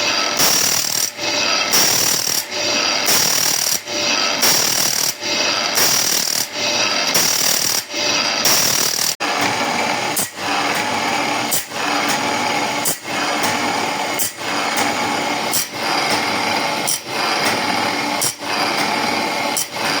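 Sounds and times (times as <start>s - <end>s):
grinding wheel on saw blade: 0.0s - 20.0s.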